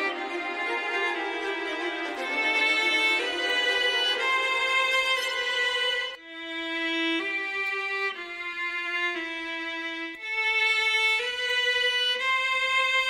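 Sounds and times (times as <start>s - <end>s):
violin slow melody: 0.0s - 13.0s.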